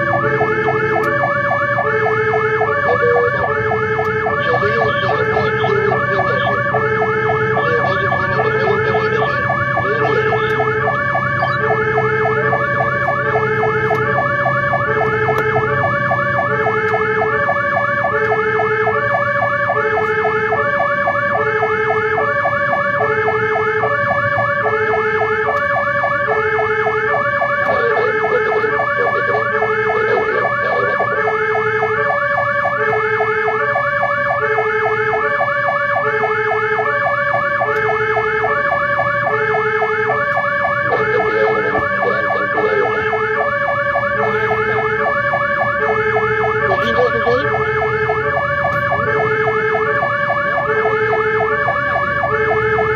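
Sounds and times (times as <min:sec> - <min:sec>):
fast warbling siren: 0:00.0 - 0:52.9
truck engine humming: 0:00.0 - 0:52.9
two-tone hi-lo siren: 0:00.0 - 0:52.9.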